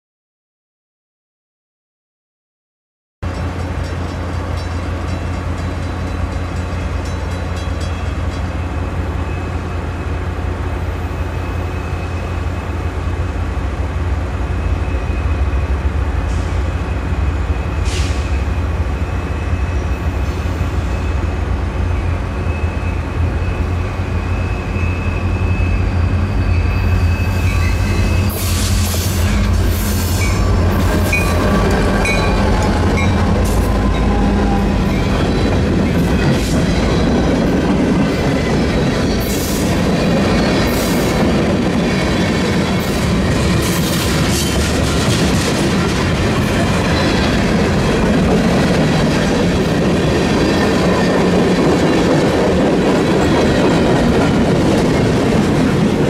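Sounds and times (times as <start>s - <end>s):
freight train rumbling past: 3.2s - 56.0s
train wheel squeals: 3.4s - 10.0s, 11.0s - 12.8s, 14.5s - 56.0s.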